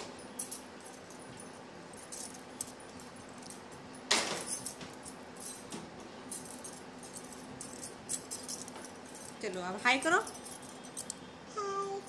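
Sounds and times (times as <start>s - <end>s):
bangles clinking and jingling: 0.0s - 12.0s
faint steady hum: 0.0s - 12.0s.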